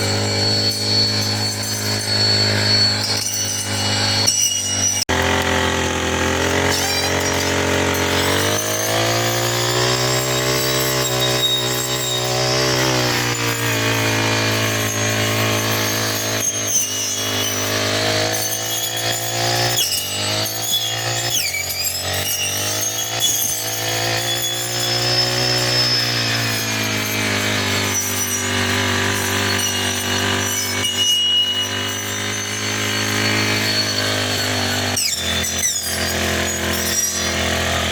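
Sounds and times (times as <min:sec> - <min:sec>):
brush cutter engine: 0:00.0 - 0:37.9.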